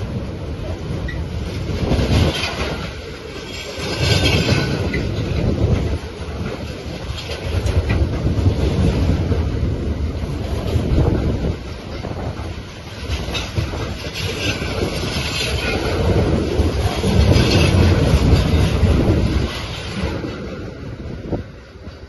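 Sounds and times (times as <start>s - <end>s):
train wheels rumbling and clattering: 0.0s - 22.0s.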